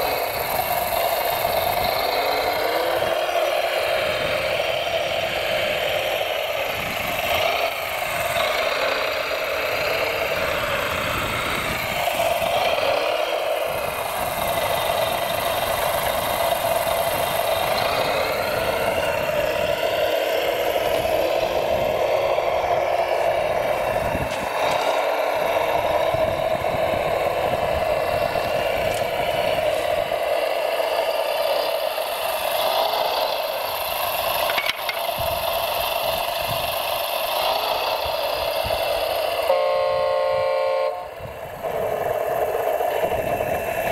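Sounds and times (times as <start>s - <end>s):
model machinery motor whine: 0.0s - 43.9s.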